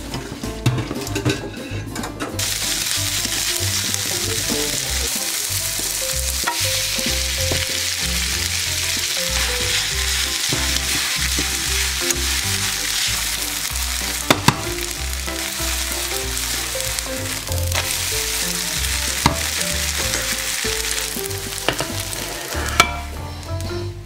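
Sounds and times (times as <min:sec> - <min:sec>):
spatula working in pan: 0:00.0 - 0:23.3
pancake batter sizzling in oil: 0:02.4 - 0:23.5.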